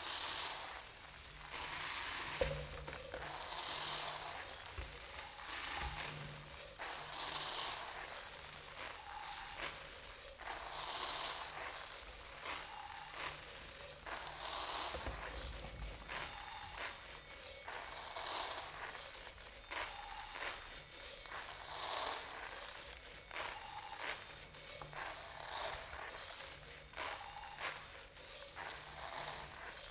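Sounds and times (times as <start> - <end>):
rice grains pouring: 0.0 - 28.0.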